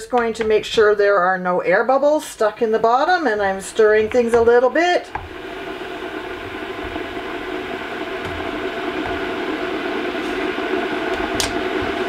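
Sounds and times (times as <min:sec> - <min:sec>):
electric kettle heating water: 0:00.0 - 0:12.0.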